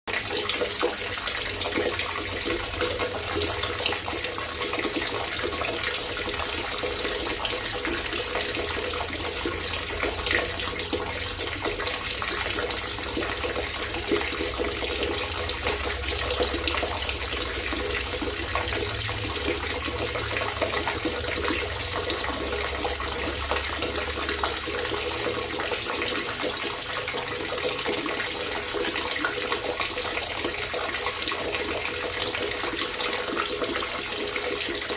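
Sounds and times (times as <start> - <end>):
water trickling and babbling: 0.1 - 34.9.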